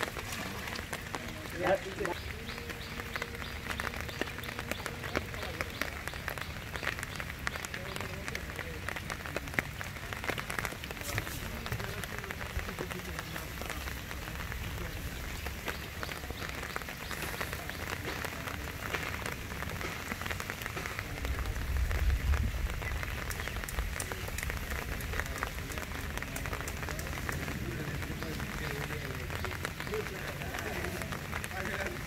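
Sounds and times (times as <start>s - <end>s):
rain on water: 0.0s - 32.0s.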